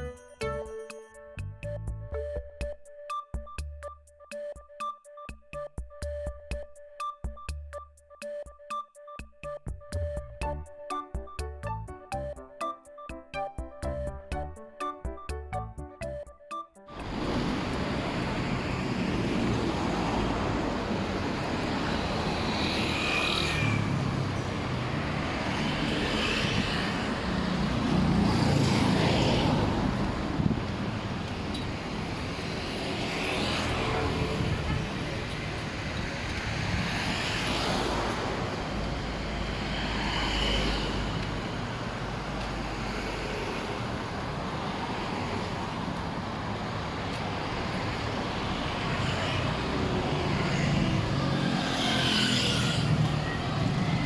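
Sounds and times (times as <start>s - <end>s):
vehicles passing by: 0.0s - 2.4s, 9.5s - 54.0s
street traffic hum: 0.0s - 8.8s, 9.4s - 54.0s.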